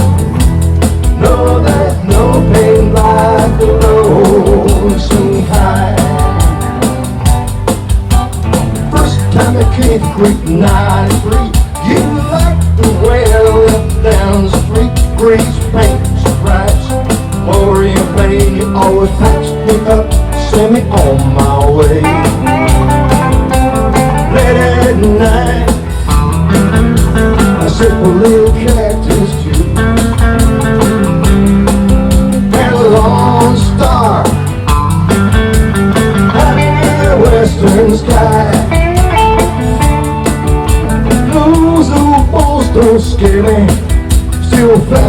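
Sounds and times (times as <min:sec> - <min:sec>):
country-rock band playing: 0:00.0 - 0:45.0
lead guitar bending notes: 0:00.0 - 0:45.0.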